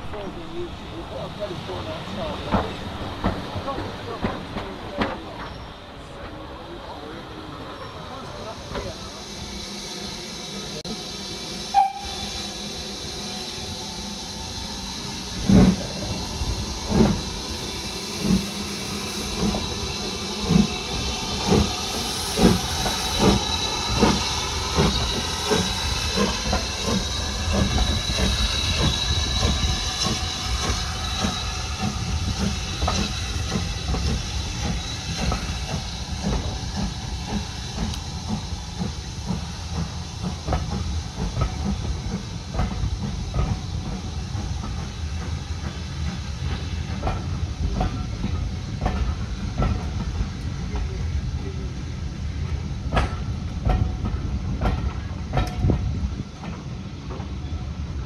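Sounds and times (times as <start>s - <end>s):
steady steam hiss: 0.0s - 58.0s
steam locomotive exhaust beats: 0.0s - 58.0s
train rumbling on rails: 0.0s - 58.0s.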